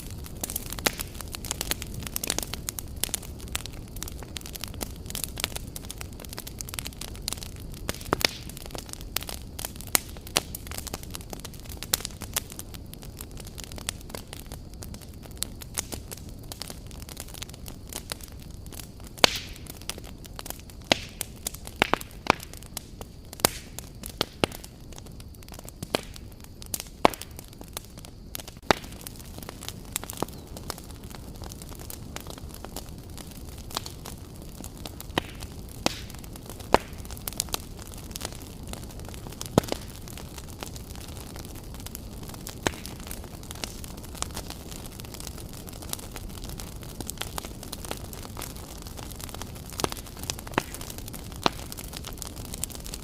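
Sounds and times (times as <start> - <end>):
crackles and pops of logs: 0.0 - 53.0
wood fire burning: 0.0 - 53.0.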